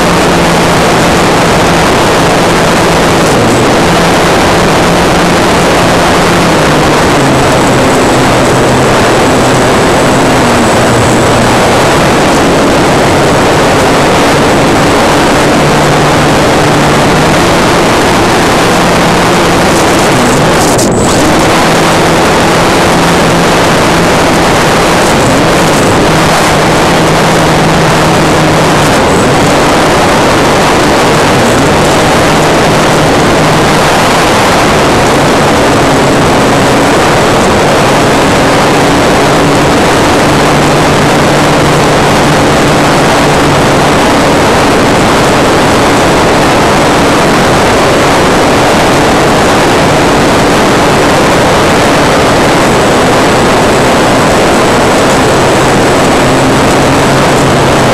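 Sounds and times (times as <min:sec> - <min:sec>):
wind rush over microphone: 0:00.0 - 0:57.9.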